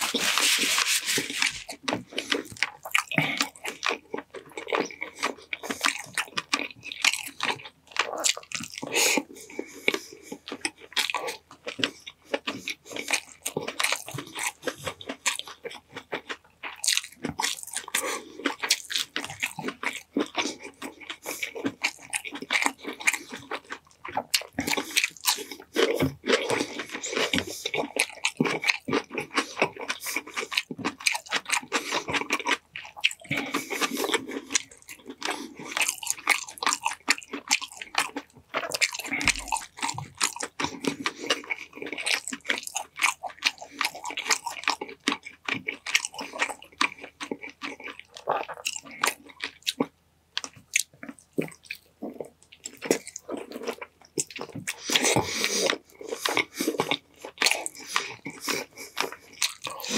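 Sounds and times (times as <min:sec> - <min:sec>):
person biting and chewing food: 0:00.0 - 0:59.9.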